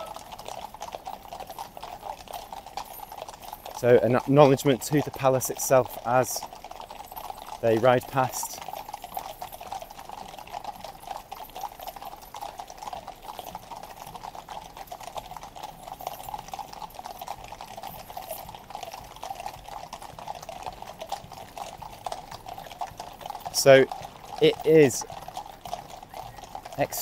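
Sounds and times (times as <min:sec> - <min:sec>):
horse hooves clip-clopping on road: 0:00.0 - 0:27.0.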